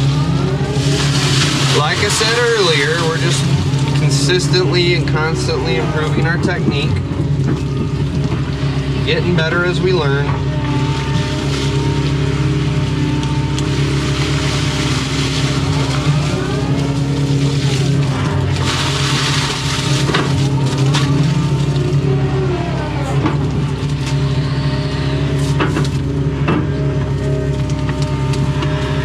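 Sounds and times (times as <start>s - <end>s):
excavator diesel engine running: 0.0s - 29.0s
hydraulic whine: 0.0s - 29.0s.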